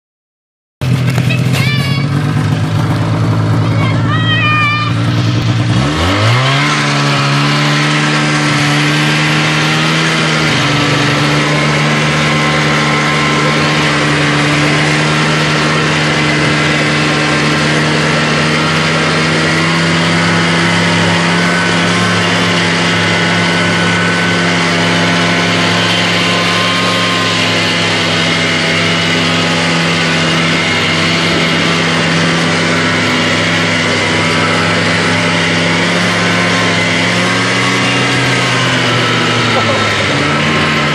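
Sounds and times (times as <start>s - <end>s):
snowmobile engine running: 0.8s - 40.9s.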